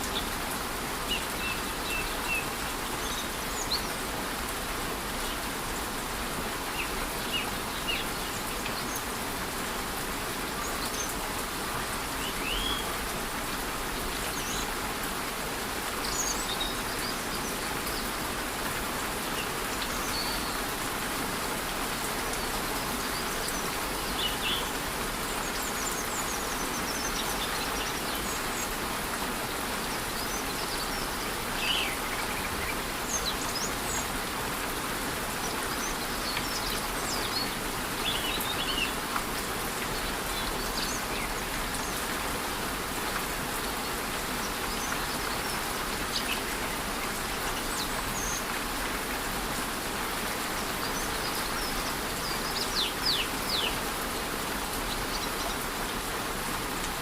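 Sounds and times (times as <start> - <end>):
light rain: 0.0 - 57.0.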